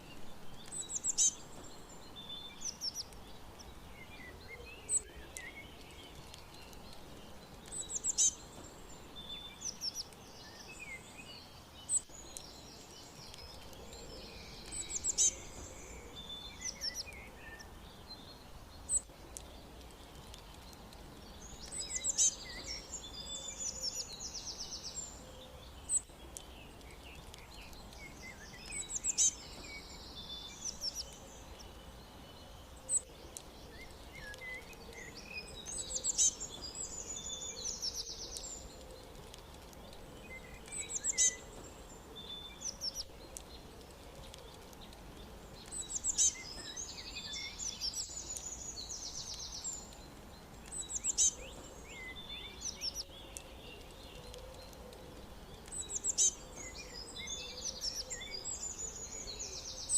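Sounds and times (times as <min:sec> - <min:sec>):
faint steady hiss: 0:00.0 - 0:59.9
songbirds chirping and trilling: 0:00.0 - 0:59.9.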